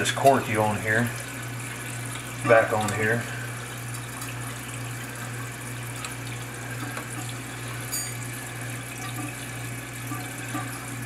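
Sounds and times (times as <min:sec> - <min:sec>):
toilet tank refilling: 0:00.0 - 0:11.0.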